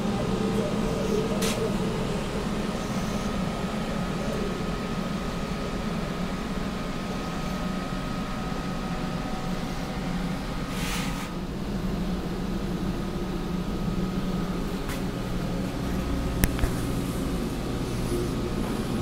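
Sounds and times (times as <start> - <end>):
thin steady whine: 0.0 - 19.0.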